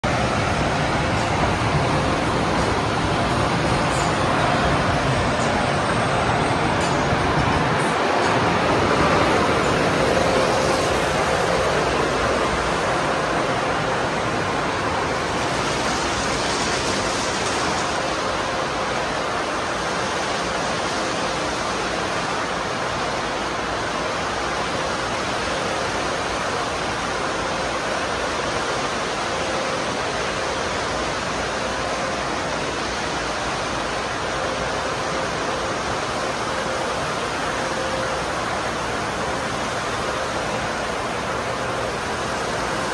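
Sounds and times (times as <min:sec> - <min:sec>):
car wash water spray and brushes: 0:00.0 - 0:42.9.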